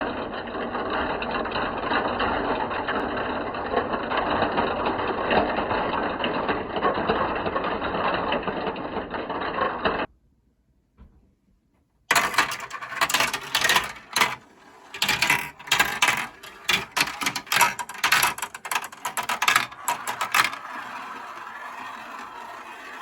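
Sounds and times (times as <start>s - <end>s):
marbles rattling down plastic track: 0.1s - 10.1s, 12.1s - 23.0s.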